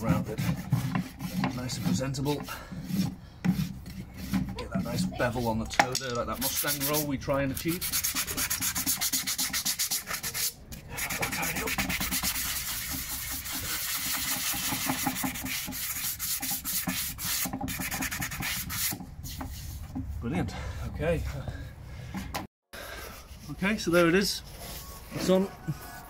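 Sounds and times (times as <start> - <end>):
sanding block rubbing hoof: 0.0 - 20.2, 23.1 - 26.0.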